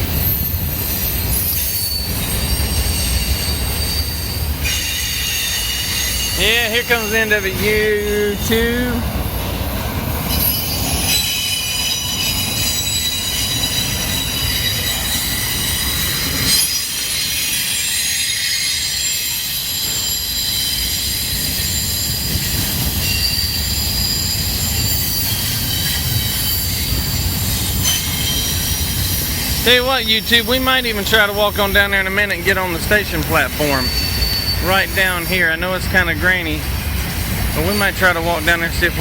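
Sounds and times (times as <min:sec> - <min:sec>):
train low rumble: 0:00.0 - 0:39.0
train wheels squealing: 0:00.0 - 0:39.0.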